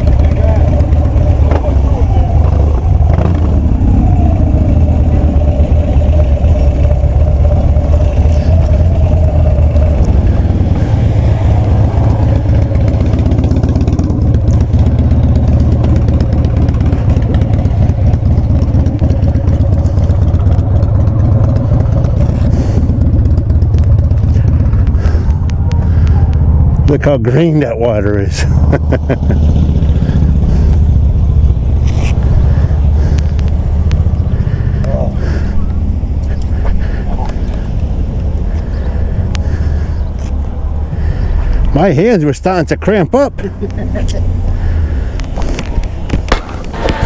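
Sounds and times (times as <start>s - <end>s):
motorcycle engine rumbling: 0.0s - 47.0s.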